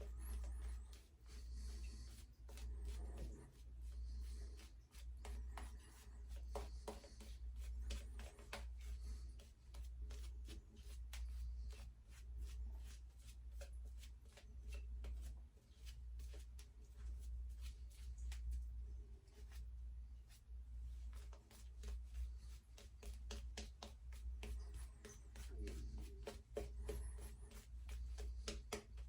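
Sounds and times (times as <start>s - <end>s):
shaving brush rubbing lather: 0.0s - 18.6s, 19.3s - 29.0s
low steady hum: 0.0s - 29.0s.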